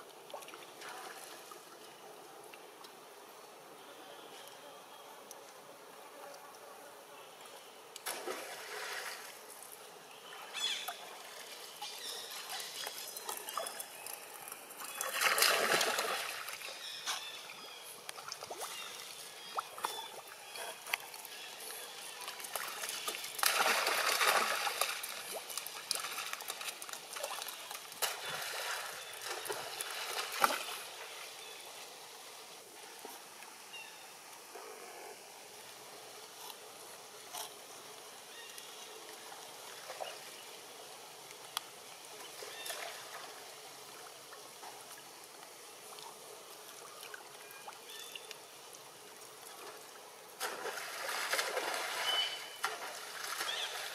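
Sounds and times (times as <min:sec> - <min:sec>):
water splashing and trickling: 0:00.0 - 0:02.7, 0:08.0 - 0:33.7, 0:37.3 - 0:53.9.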